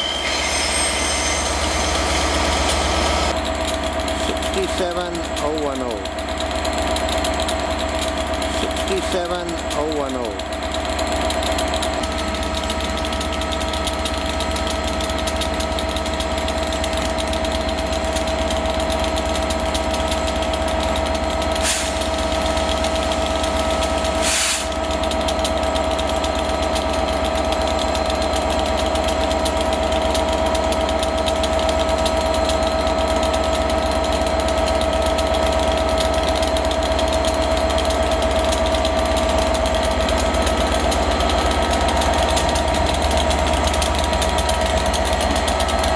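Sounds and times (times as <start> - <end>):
diesel locomotive engine idling: 0.0 - 45.9.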